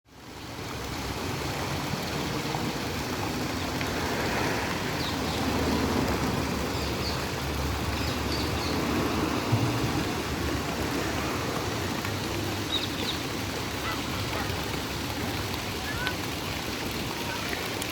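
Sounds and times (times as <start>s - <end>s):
running water rushing: 0.0s - 17.9s.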